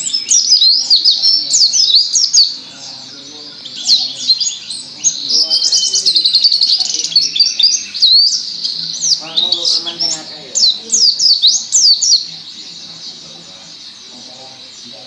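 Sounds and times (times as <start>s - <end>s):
songbird singing high chirps: 0.0s - 15.0s.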